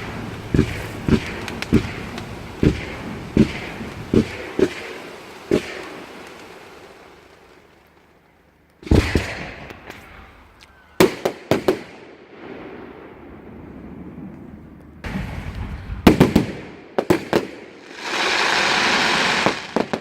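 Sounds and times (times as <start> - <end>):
fireworks exploding: 0.0 - 20.0.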